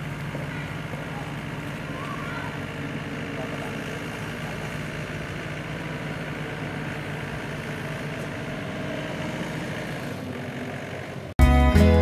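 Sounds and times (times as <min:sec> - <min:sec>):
farm vehicle engine running: 0:00.0 - 0:12.0.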